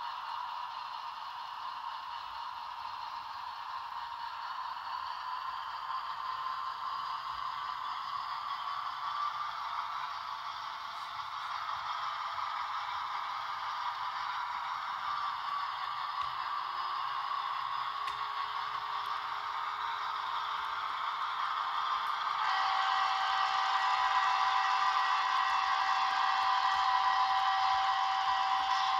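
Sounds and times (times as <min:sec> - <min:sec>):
model train motor whirring: 0:00.0 - 0:28.9.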